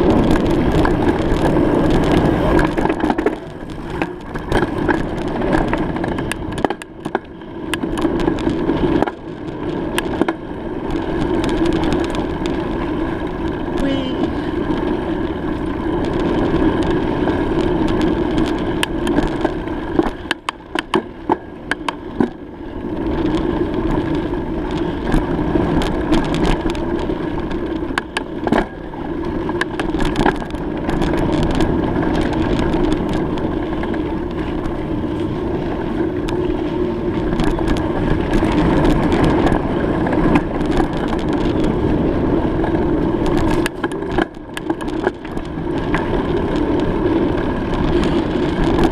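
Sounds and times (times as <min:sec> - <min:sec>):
bike riding rumble: 0:00.0 - 0:48.9.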